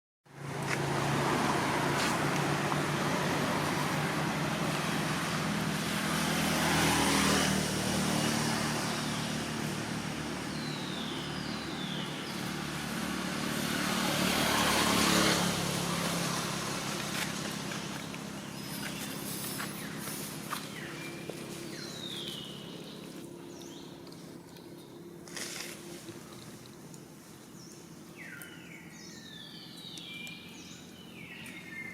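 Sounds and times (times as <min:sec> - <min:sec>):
vehicles passing: 0:00.3 - 0:31.9.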